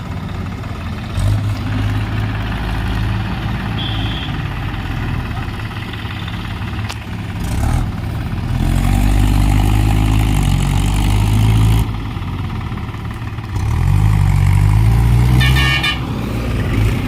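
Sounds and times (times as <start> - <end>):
tractor engine idling and revving: 0.0 - 17.0.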